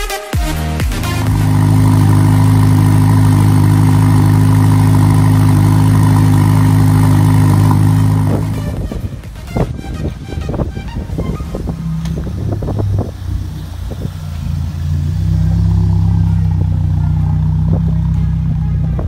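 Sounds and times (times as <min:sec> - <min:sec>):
car engine idling: 0:00.6 - 0:19.0.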